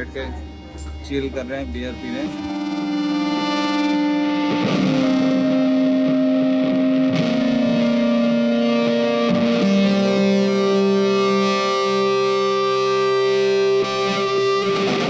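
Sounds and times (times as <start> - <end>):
distorted guitar music: 0.0 - 15.0.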